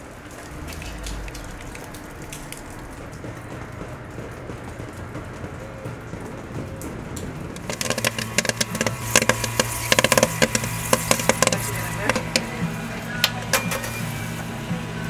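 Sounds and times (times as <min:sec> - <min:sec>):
stirring motor hum: 0:00.4 - 0:15.0
popcorn popping: 0:00.5 - 0:14.2.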